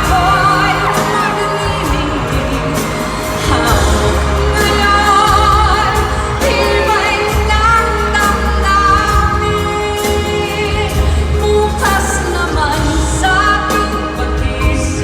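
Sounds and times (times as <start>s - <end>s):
pop band with bass line: 0.0s - 15.0s
women singing: 0.0s - 15.0s.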